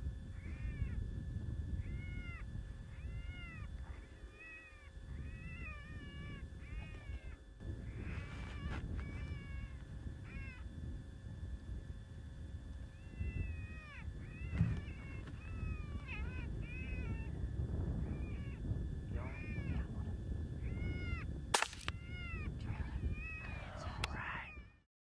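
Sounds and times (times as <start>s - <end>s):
steady low rumble: 0.0s - 24.7s
high wavering squealing cries: 0.3s - 1.0s, 1.8s - 10.7s, 12.9s - 19.9s, 20.6s - 24.7s.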